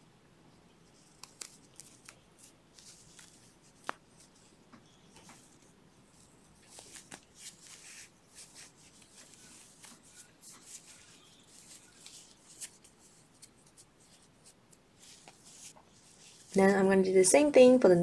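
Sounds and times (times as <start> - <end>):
crochet hook rustling yarn: 0.7 - 17.5.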